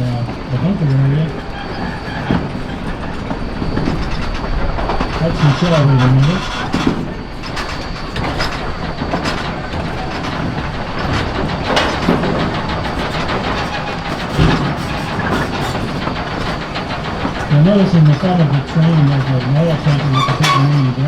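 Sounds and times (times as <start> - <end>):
train wheels clicking over rails: 0.0 - 21.0.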